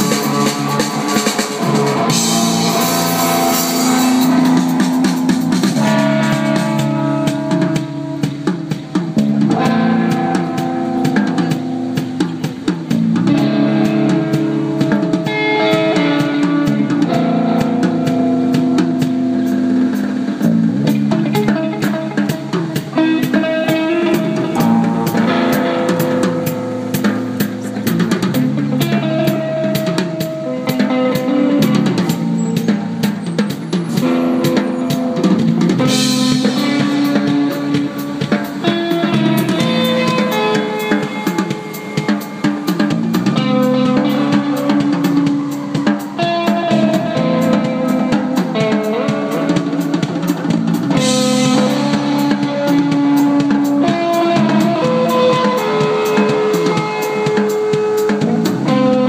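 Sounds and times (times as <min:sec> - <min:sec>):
band playing rock music: 0:00.0 - 0:59.0
drum kit beat: 0:00.0 - 0:59.0.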